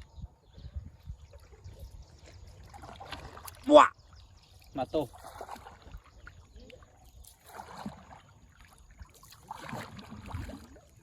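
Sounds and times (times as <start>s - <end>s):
water swishing from paddle strokes: 1.2s - 11.0s.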